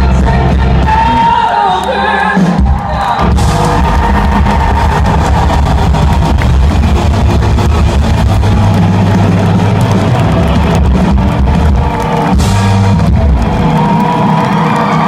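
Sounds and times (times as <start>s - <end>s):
distorted live rock band: 0.0s - 15.0s.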